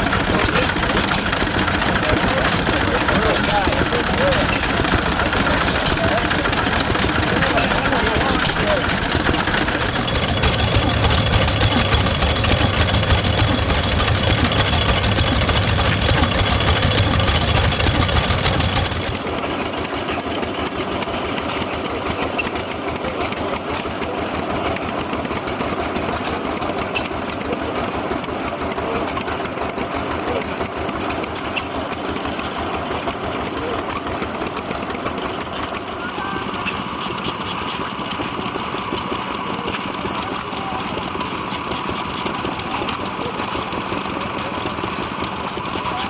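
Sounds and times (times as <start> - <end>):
engine with rapid beat: 0.0 - 46.0
old engines running: 0.0 - 46.0.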